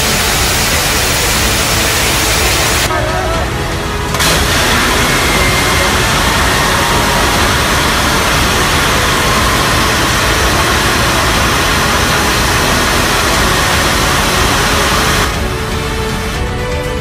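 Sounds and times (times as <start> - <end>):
rocket motor exhaust roaring: 0.0 - 17.0.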